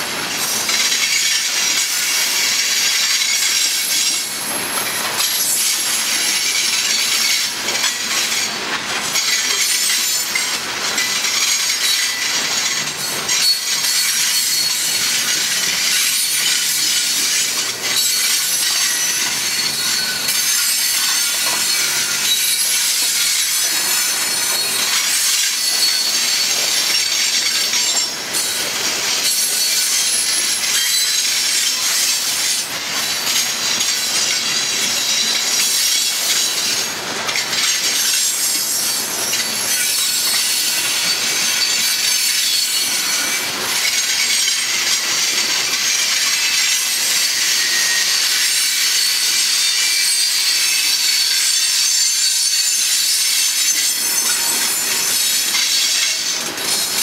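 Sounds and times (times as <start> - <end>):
train wheels grinding on rails: 0.0 - 57.0.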